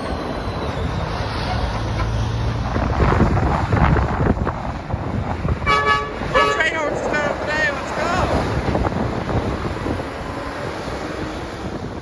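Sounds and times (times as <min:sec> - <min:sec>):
highway traffic passing: 0:00.0 - 0:12.0
wind buffeting microphone: 0:00.0 - 0:12.0.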